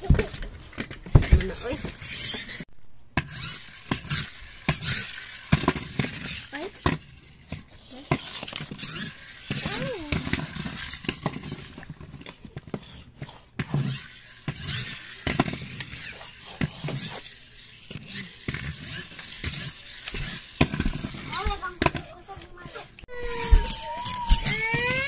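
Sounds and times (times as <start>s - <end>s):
toy trucks clicking and scraping: 0.0s - 25.0s.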